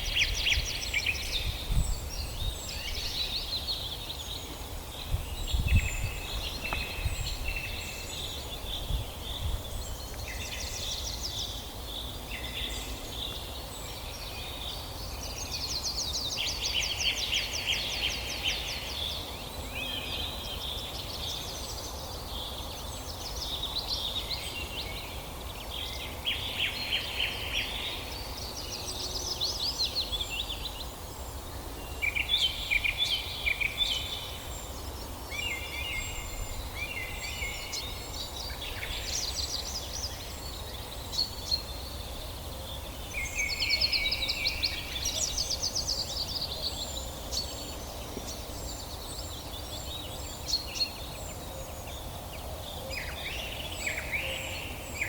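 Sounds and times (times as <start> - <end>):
songbirds trilling and warbling: 0.0 - 55.0.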